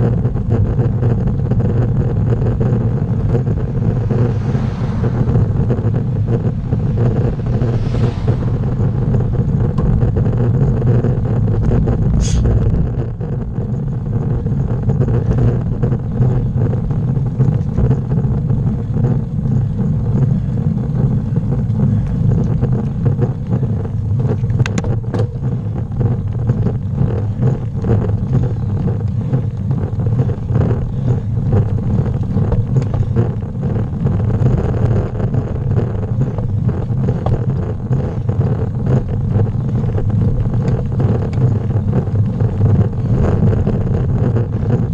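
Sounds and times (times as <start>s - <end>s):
bike tyres rolling on asphalt: 0.0s - 44.9s
wind buffeting microphone: 0.0s - 44.9s.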